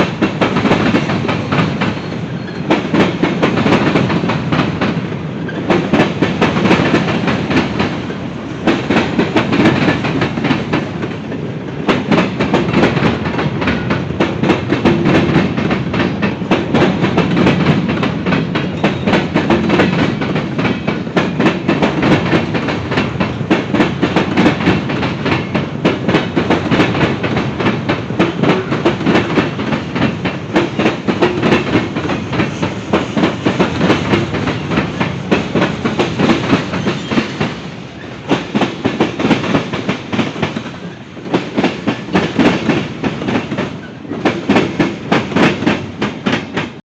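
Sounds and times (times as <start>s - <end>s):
freight train rumbling past: 0.0s - 46.8s
wheels clacking over rail joints: 0.0s - 46.8s.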